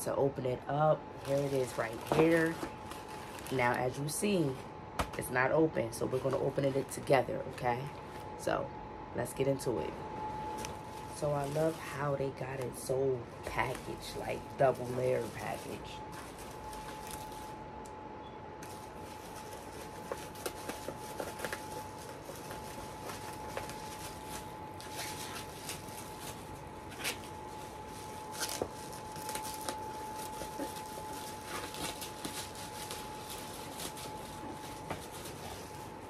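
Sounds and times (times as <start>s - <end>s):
bubble wrap crinkling: 0.0s - 8.3s, 9.8s - 17.8s, 18.6s - 36.0s.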